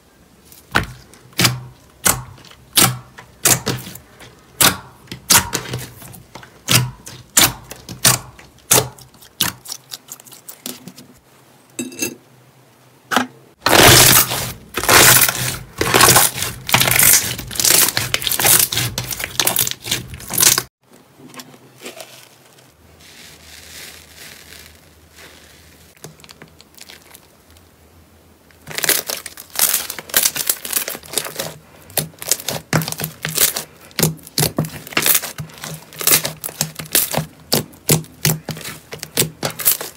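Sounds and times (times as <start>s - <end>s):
slime popping and crackling: 0.8s - 10.4s, 13.6s - 20.7s, 23.1s - 27.6s, 28.6s - 39.9s.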